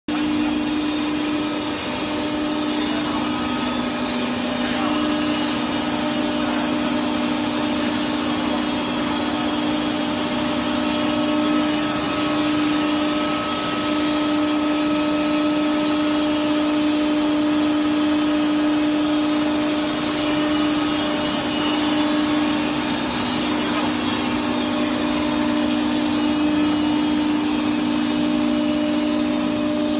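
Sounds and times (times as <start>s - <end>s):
wood chipper running: 0.1s - 29.9s.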